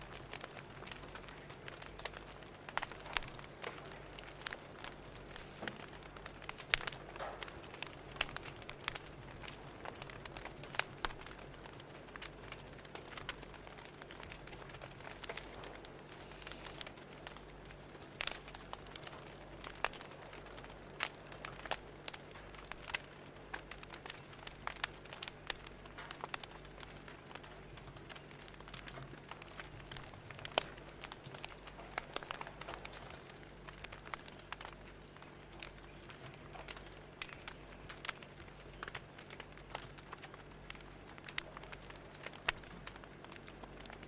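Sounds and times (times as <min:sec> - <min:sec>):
fire crackling and popping: 0:00.0 - 0:44.0
soft steady hiss: 0:00.0 - 0:44.0.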